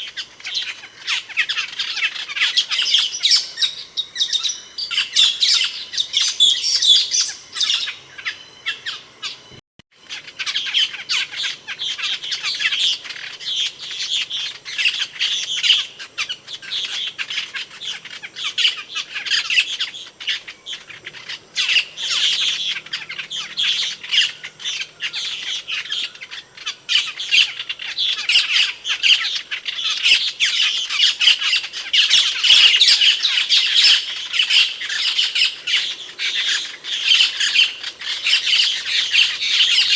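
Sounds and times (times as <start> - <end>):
starling calling rapid high notes: 0.0 - 39.9.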